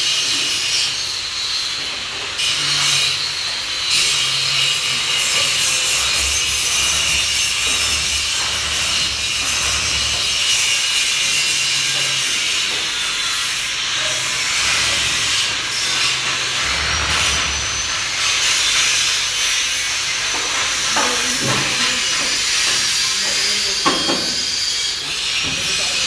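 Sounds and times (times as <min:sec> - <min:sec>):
block press machine vibrating: 0:02.5 - 0:26.0.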